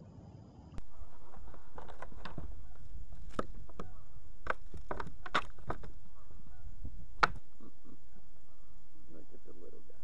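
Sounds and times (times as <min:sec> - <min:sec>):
low rumble: 0:00.8 - 0:10.0.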